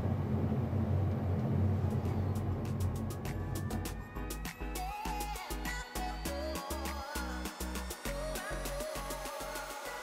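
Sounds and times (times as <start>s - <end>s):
background music with steady beat: 1.4s - 10.0s.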